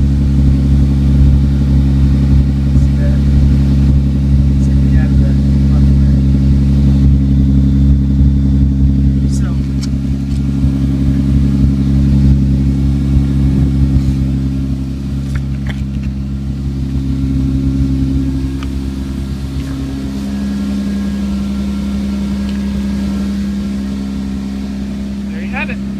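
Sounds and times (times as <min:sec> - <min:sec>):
car engine running: 0:00.0 - 0:25.9
loud exhaust leak: 0:00.0 - 0:25.9.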